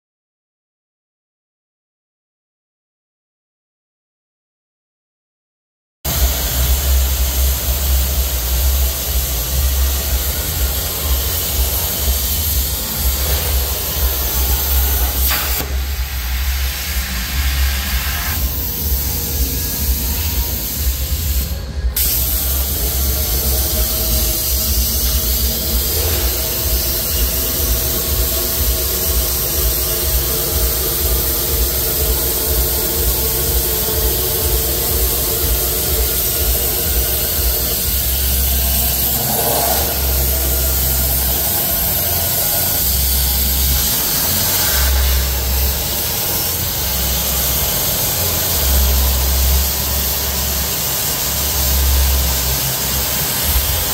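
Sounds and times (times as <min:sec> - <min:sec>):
low hum: 0:06.1 - 0:50.7
plasma torch cutting metal: 0:06.1 - 0:53.9.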